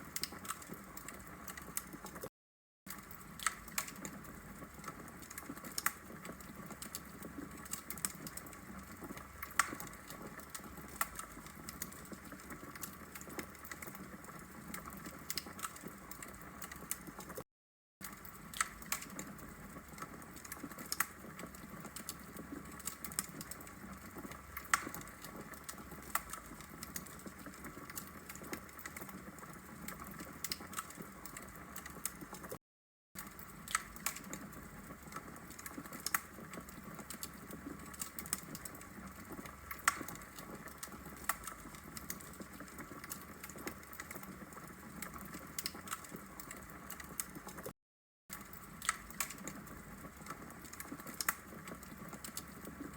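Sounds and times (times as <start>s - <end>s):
wood fire crackling and popping: 0.0s - 2.3s, 2.9s - 17.4s, 18.0s - 32.6s, 33.2s - 47.7s, 48.3s - 52.9s.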